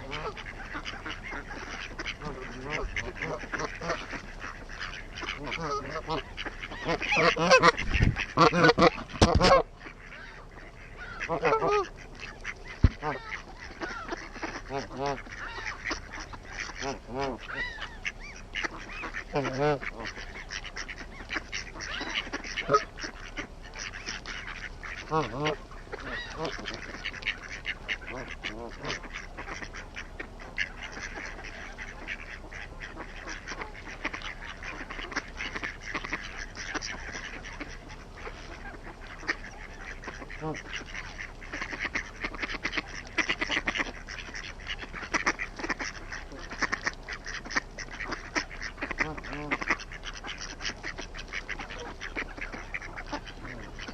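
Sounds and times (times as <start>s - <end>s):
ducks and geese quacking and honking: 0.0s - 53.9s.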